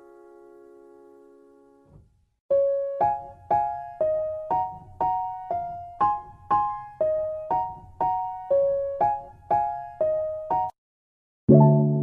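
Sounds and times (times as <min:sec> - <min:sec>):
gentle keyboard melody: 0:00.0 - 0:01.9, 0:02.5 - 0:10.8, 0:11.5 - 0:12.0.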